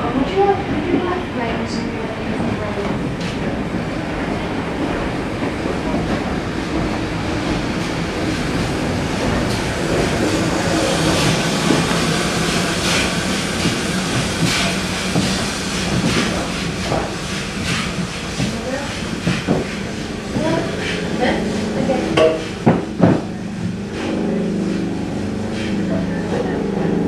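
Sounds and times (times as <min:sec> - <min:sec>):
low drone: 0:00.0 - 0:27.0.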